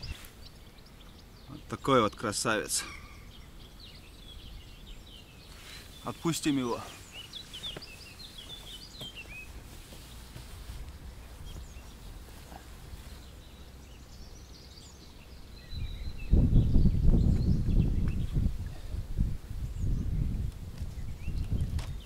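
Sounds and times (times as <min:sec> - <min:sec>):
faint outdoor hiss: 0:00.0 - 0:22.0
small birds chirping: 0:00.0 - 0:22.0.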